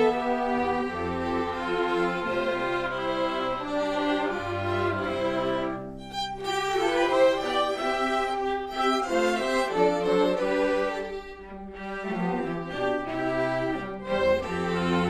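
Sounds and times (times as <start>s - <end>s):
string ensemble bowed notes: 0.0s - 15.0s.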